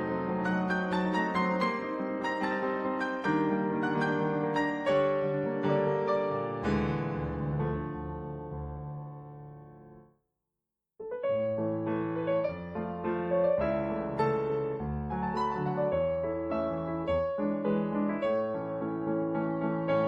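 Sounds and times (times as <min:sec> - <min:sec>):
piano music: 0:00.0 - 0:10.0, 0:11.0 - 0:20.0.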